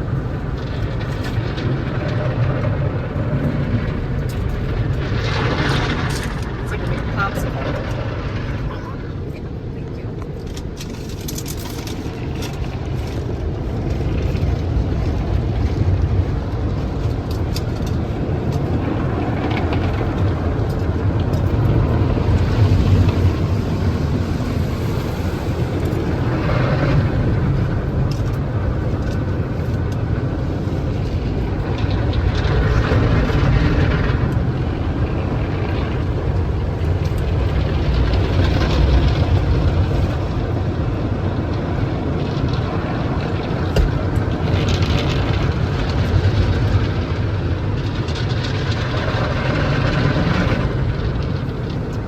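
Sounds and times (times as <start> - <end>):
car wash rumble: 0.0 - 52.0
rushing wash noise: 0.0 - 52.0.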